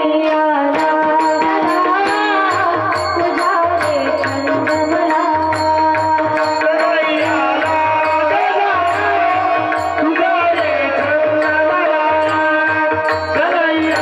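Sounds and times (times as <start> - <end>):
hand cymbals ticking: 0.8 - 14.0.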